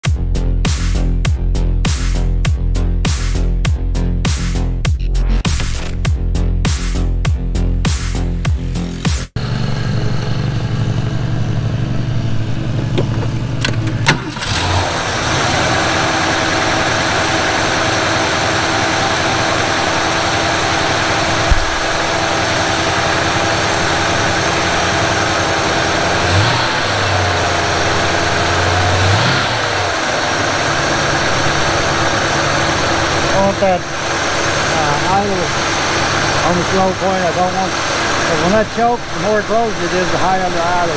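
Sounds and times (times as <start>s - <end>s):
car engine idling: 5.3s - 40.9s.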